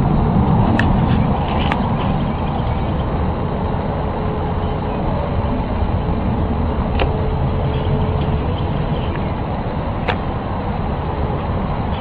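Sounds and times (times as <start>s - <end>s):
faint steady hum: 0.0s - 12.0s
low rumbling roar: 0.0s - 12.0s.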